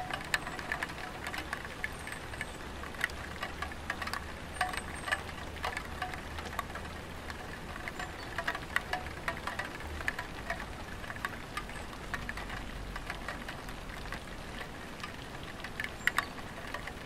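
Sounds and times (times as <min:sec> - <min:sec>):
rain dripping on tiled roof: 0:00.0 - 0:17.0.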